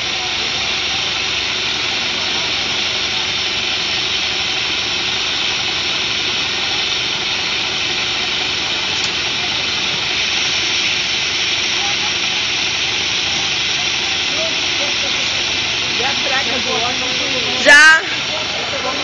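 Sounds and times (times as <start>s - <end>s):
bus diesel engine idling: 0.0s - 19.0s.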